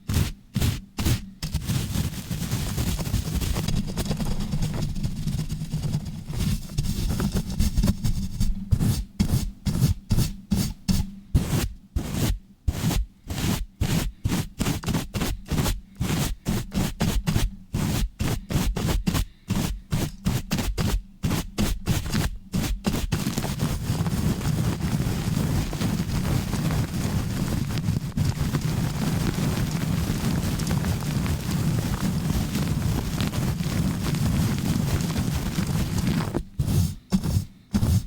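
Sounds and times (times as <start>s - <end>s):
rubbing on microphone: 0.0s - 38.0s.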